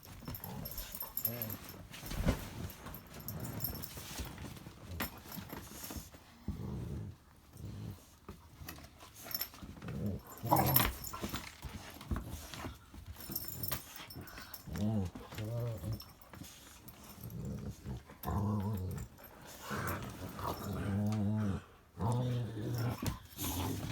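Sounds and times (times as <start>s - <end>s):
dogs play growling: 0.0s - 23.9s.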